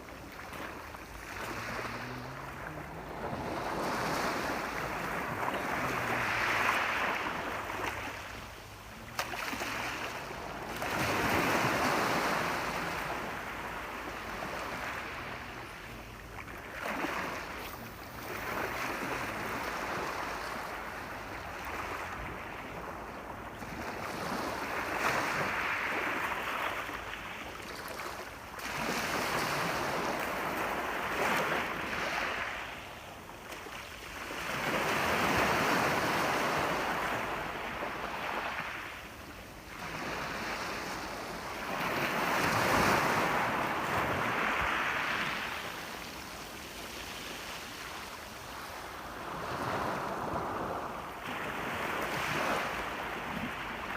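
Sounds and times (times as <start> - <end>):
ocean waves breaking on shore: 0.0 - 53.9.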